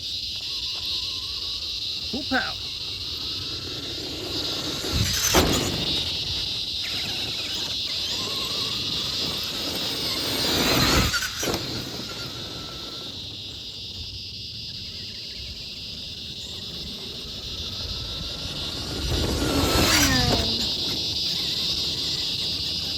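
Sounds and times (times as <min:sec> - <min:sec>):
insects chirring: 0:00.0 - 0:22.9
rc truck electric motor whining: 0:00.0 - 0:22.9.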